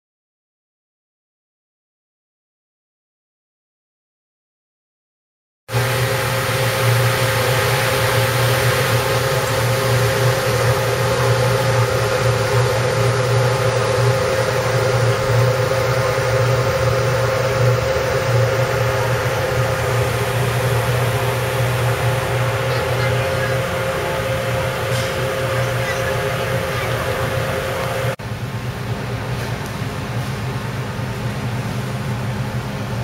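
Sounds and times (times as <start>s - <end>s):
constant higher hum: 5.7s - 33.0s
ferry engine low drone: 5.7s - 33.0s.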